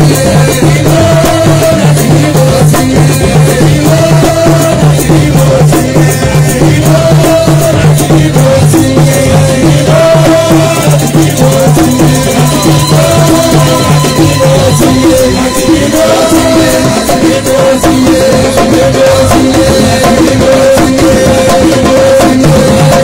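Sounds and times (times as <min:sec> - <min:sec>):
steady low pulse: 0:00.7 - 0:22.2.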